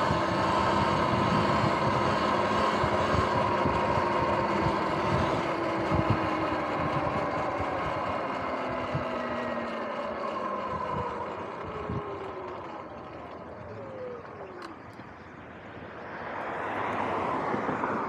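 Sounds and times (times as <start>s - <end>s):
electric motorbike motor whine: 0.0s - 18.0s
wind buffeting microphone: 0.0s - 18.0s.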